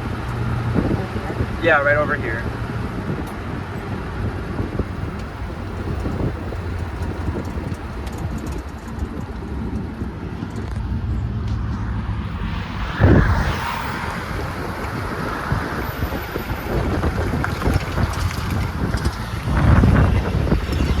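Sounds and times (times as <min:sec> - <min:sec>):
car engine running at low revs: 0:00.0 - 0:21.0
wind on microphone: 0:00.0 - 0:21.0.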